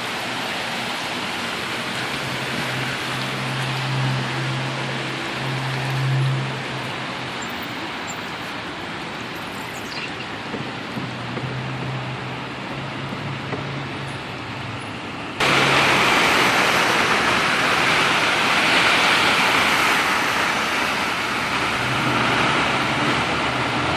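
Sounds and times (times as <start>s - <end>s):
rushing water in flooded street: 0.0s - 23.9s.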